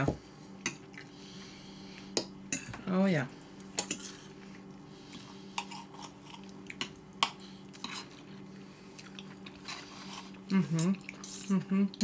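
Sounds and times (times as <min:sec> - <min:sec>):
steady low hum: 0:00.0 - 0:12.0
people chewing food: 0:00.6 - 0:02.3, 0:03.4 - 0:12.0.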